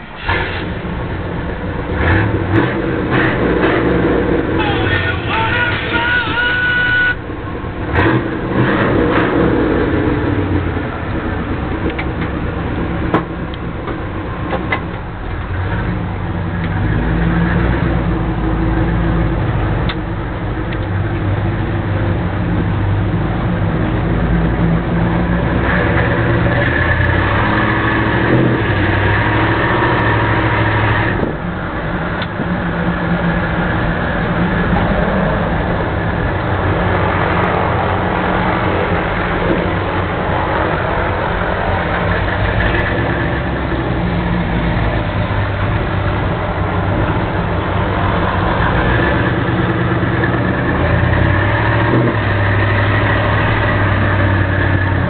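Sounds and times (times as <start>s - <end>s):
truck engine rumbling: 0.0s - 55.0s.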